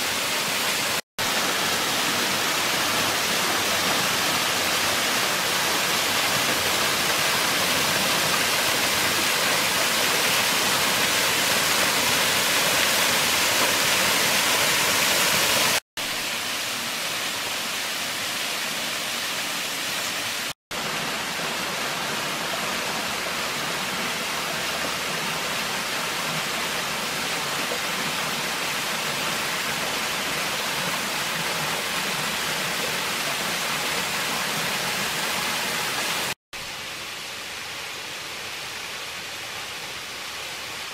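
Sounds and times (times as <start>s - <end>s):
waterfall rushing: 0.0s - 36.4s.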